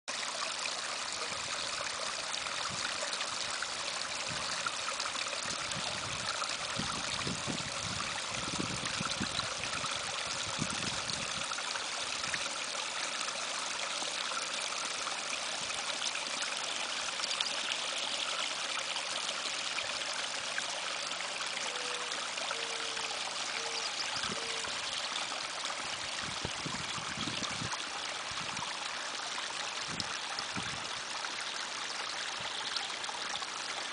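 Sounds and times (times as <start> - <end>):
stream trickling over stones: 0.1 - 33.9.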